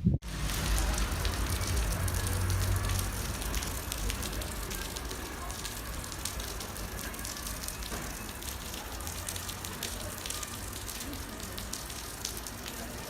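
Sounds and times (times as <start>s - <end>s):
water rushing and splashing: 0.2s - 13.0s.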